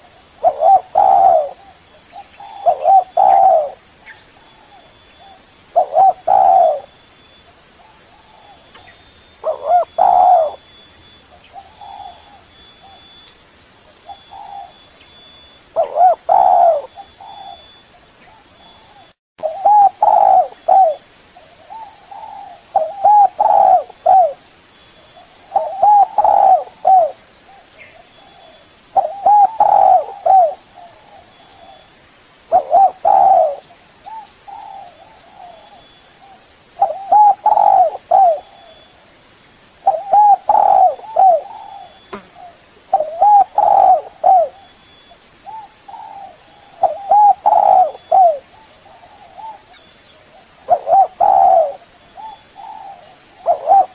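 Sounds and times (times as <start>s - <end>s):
dove cooing: 0.0s - 7.0s, 7.8s - 10.7s, 11.4s - 13.1s, 14.0s - 14.8s, 15.8s - 24.4s, 25.2s - 31.9s, 32.5s - 38.9s, 39.8s - 53.9s.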